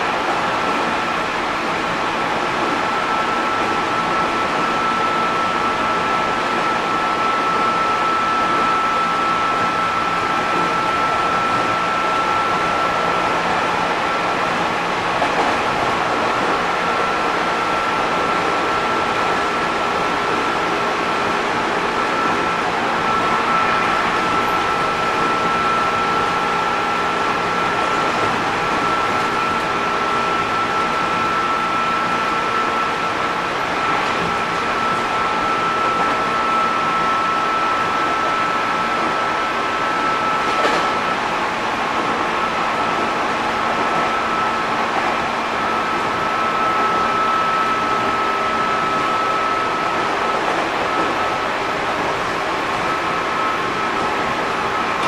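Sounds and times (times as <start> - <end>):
train wheel and rail rumble: 0.0 - 55.0
train whine: 0.0 - 55.0.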